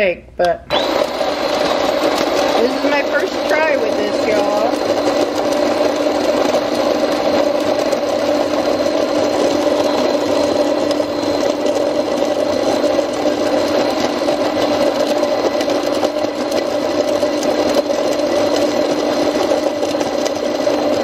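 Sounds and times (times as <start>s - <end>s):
coffee grinder running: 0.7s - 21.0s.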